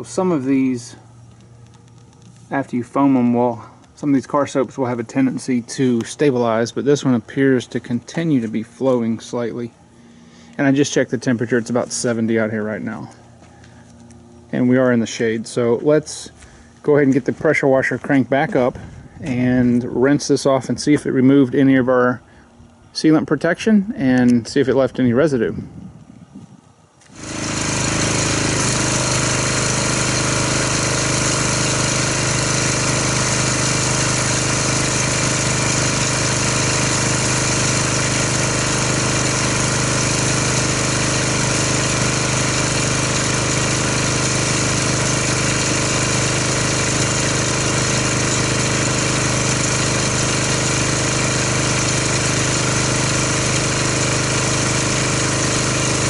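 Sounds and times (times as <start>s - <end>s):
pressure washer running: 0.0s - 19.6s, 27.0s - 56.0s.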